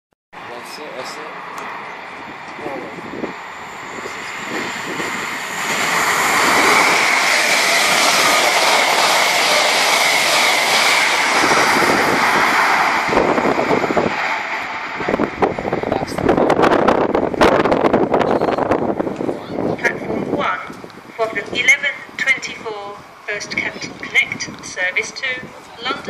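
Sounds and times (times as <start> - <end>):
express train passing: 0.4 - 26.0
wheels rattling on rail: 0.4 - 26.0.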